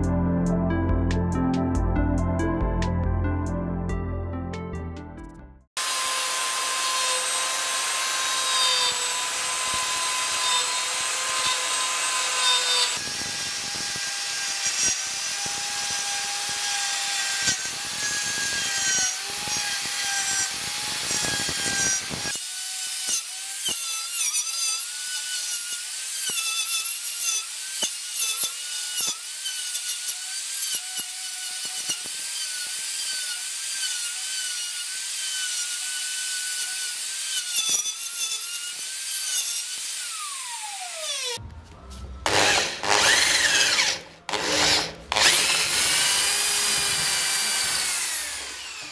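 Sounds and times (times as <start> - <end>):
router motor whine: 5.8 - 26.9, 27.7 - 41.4, 42.2 - 48.9
router rasping through wood: 5.8 - 41.4, 42.3 - 48.9.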